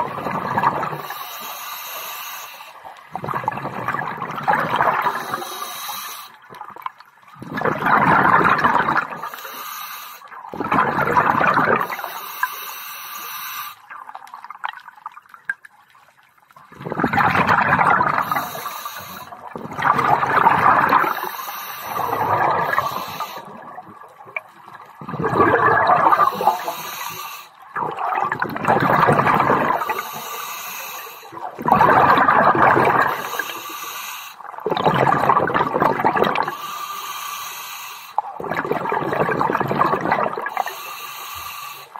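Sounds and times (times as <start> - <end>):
underwater exhaled bubbles: 0.0 - 41.9.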